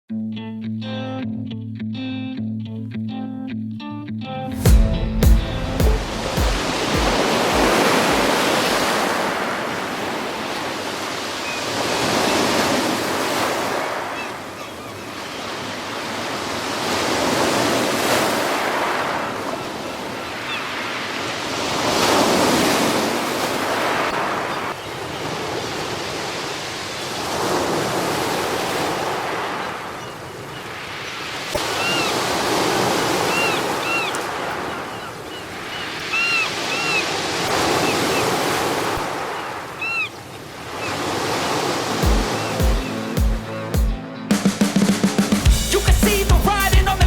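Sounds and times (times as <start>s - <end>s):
sea waves breaking on a beach: 4.8s - 43.7s.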